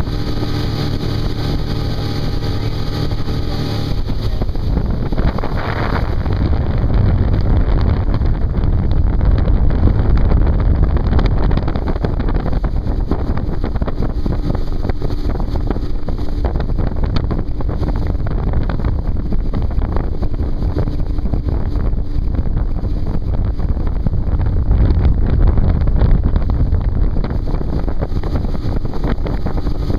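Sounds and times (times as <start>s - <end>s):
boat engine drone: 0.0s - 29.9s
water rushing past hull: 0.0s - 29.9s
wind buffeting microphone: 0.0s - 29.9s.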